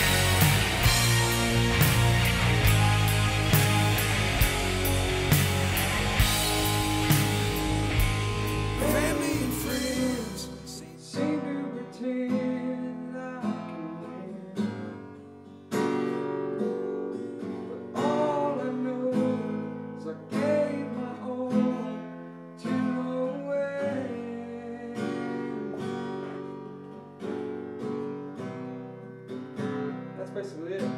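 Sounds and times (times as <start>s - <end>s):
acoustic guitar strumming: 0.0s - 30.9s.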